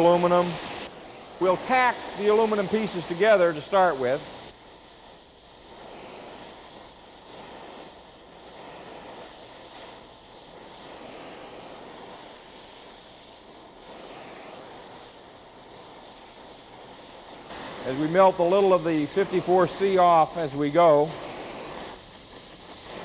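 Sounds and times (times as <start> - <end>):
torch flame hissing: 0.0 - 23.0.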